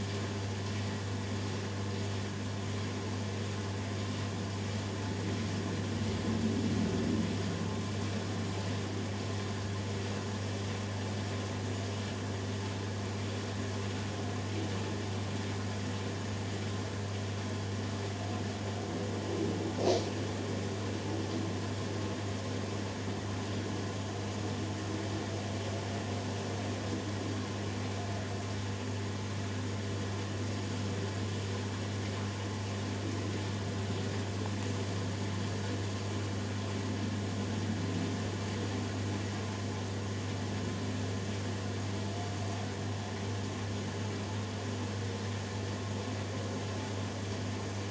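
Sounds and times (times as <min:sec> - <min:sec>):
washing machine spinning: 0:00.0 - 0:47.9.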